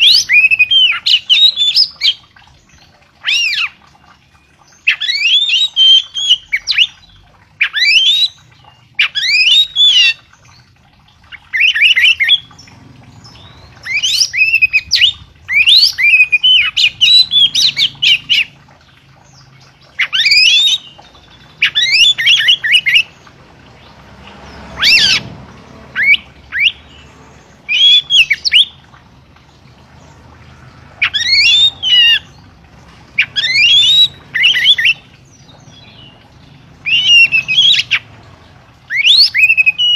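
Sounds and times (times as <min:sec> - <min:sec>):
songbird warbling: 0:00.0 - 0:39.9.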